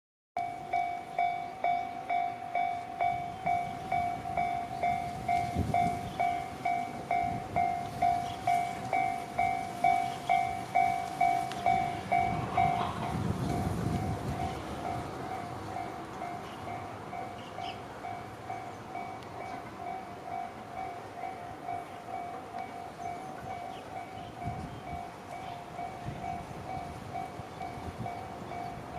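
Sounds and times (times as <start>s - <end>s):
approaching train rumble: 0.4s - 28.9s.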